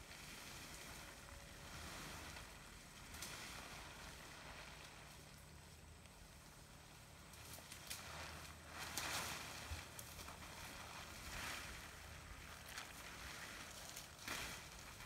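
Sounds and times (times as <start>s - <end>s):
plastic tarp rustling on grass: 0.0s - 15.0s.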